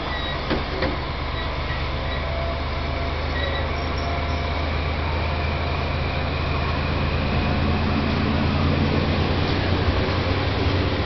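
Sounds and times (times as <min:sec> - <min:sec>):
train coaches rumbling on rails: 0:00.0 - 0:11.0.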